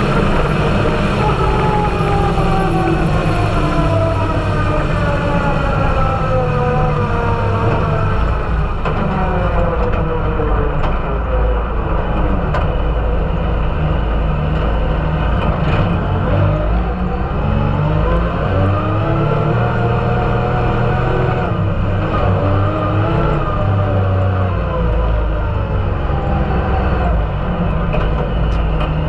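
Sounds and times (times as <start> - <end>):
utility vehicle engine from inside: 0.0 - 29.0.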